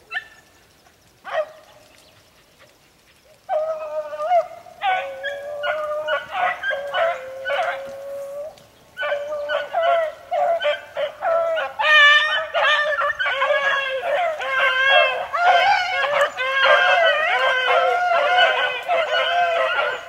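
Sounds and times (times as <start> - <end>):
pack of beagles baying: 1.2 - 20.0.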